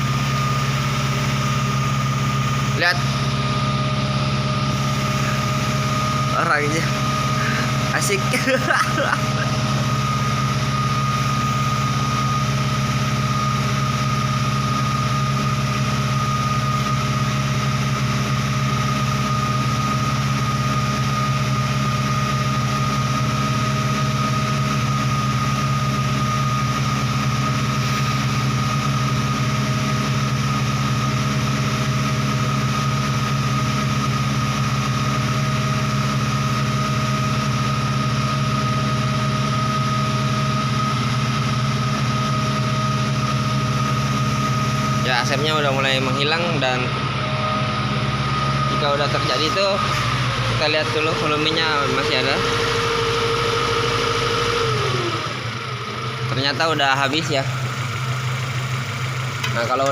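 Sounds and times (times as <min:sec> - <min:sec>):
car engine running: 0:00.0 - 0:59.9
high whine: 0:00.0 - 0:59.9.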